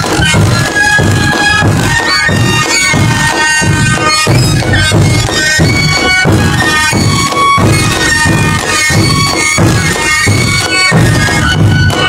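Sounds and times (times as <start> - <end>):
cane pipes playing high melody: 0.0 - 12.0
steady drumbeat: 0.0 - 12.0.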